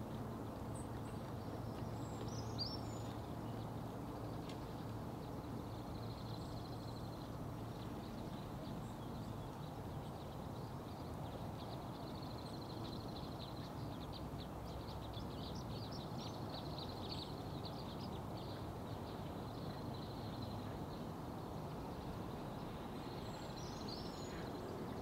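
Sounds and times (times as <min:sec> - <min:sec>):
songbirds trilling: 0:00.3 - 0:25.0.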